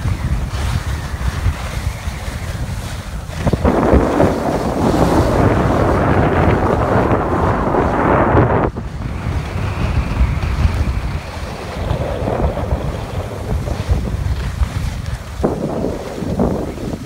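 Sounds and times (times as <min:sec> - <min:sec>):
skis sliding over snow: 0:00.0 - 0:17.0
wind buffeting microphone: 0:00.0 - 0:17.0.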